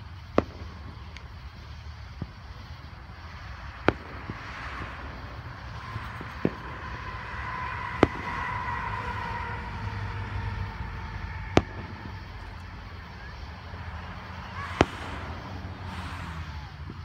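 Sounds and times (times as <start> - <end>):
distant firework bangs: 0.0 - 17.0
road traffic rumble: 0.0 - 17.0.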